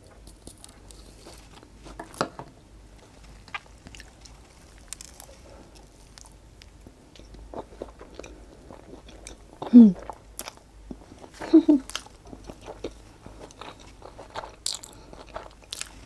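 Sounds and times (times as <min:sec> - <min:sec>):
crunchy chewing: 0:03.0 - 0:16.0.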